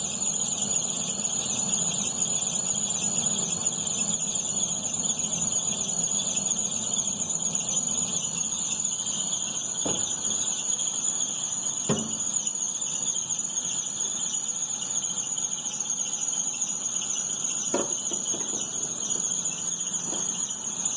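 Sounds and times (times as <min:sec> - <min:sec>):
high-pitched belt squeal: 0:00.0 - 0:20.9.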